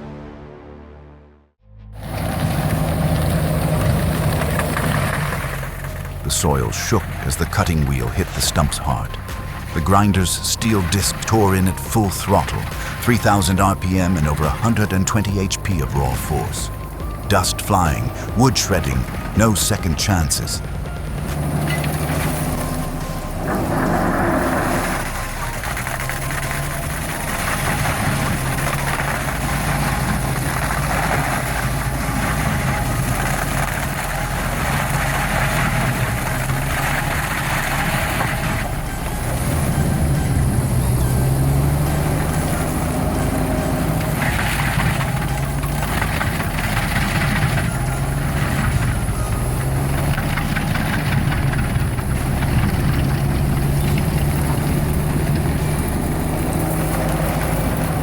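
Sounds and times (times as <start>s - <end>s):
cutting wheel grinding wood: 2.0s - 14.6s, 20.6s - 58.0s
stump grinder engine running: 2.0s - 14.7s, 20.1s - 58.0s.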